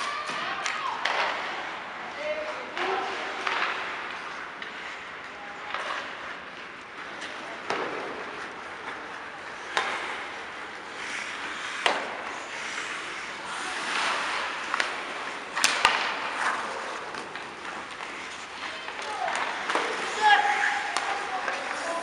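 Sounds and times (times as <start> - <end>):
hockey sticks and puck clacking: 0.0 - 22.0
skates scraping on ice: 0.0 - 22.0.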